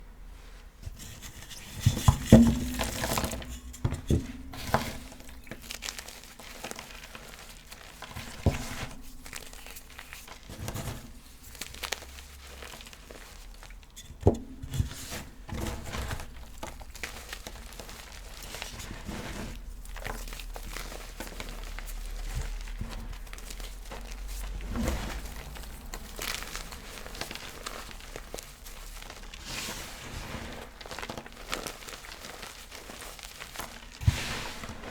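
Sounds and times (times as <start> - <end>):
chalk crunching and crumbling: 1.0 - 14.0, 14.8 - 34.9.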